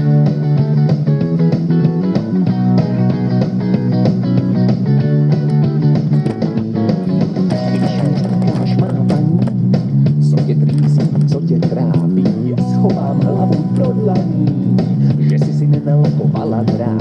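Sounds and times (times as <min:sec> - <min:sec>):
bass: 0:00.0 - 0:17.0
guitars playing chords: 0:00.0 - 0:17.0
steady drum beat: 0:00.0 - 0:17.0.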